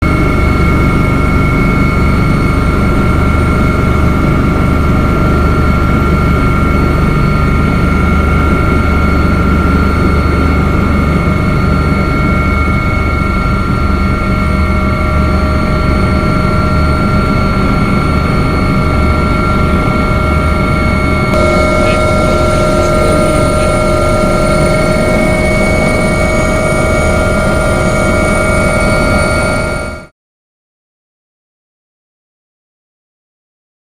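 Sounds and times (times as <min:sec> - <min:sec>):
helicopter engine running: 0:00.0 - 0:30.1.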